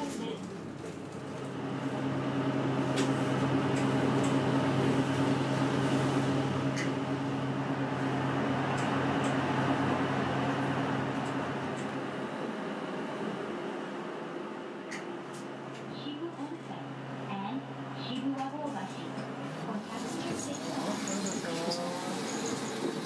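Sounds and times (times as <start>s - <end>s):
bus engine and cabin drone: 0.0s - 23.0s.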